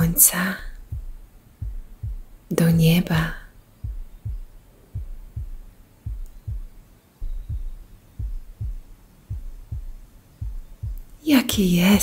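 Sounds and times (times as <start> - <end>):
heartbeat thumps: 0.0 - 12.0.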